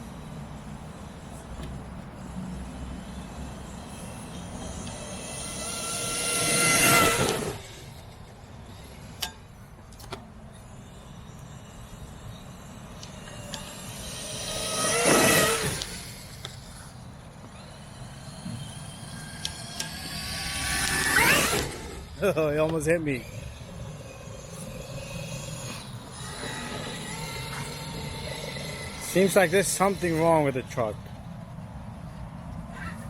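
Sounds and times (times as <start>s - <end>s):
rc truck motor whine: 0.0s - 31.3s.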